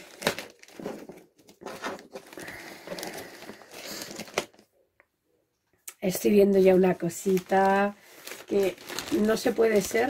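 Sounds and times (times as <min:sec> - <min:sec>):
plastic bag crinkling: 0:00.0 - 0:04.7, 0:06.1 - 0:10.0.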